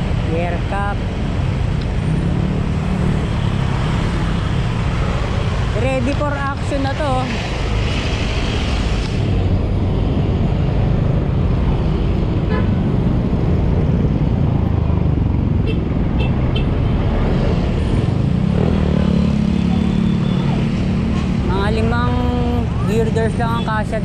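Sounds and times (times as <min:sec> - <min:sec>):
traffic engine rumble: 0:00.0 - 0:24.0.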